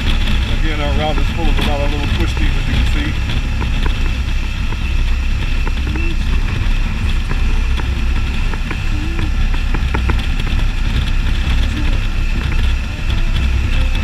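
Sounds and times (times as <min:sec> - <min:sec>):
motorcycle engine rumble: 0:00.0 - 0:14.0.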